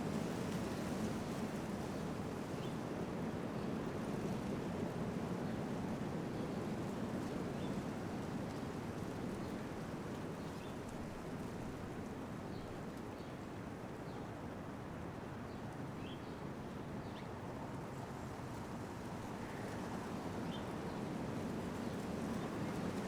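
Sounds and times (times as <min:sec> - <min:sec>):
low rush of outdoor noise: 0:00.0 - 0:23.0.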